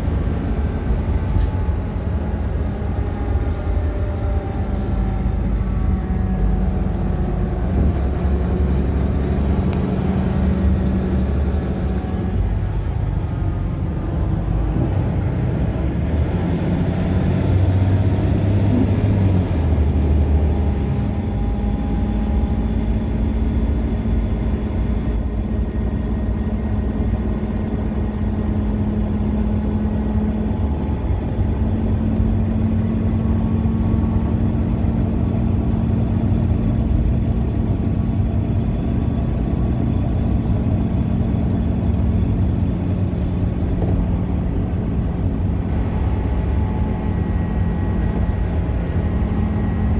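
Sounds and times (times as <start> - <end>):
bus engine droning: 0.0 - 49.9.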